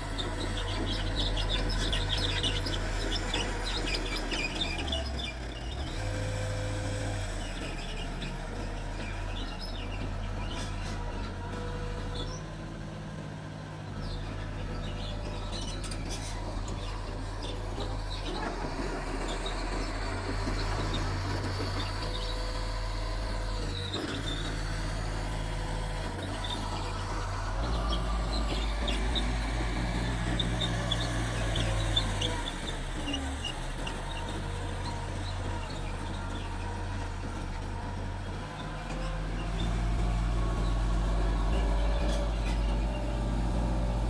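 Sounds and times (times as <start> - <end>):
bulldozer diesel engine: 0.0 - 44.0.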